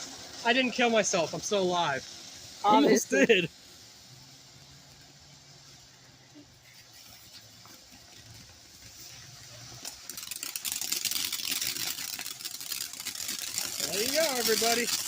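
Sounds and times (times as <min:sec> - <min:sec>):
firework hissing and crackling: 0:00.0 - 0:15.0.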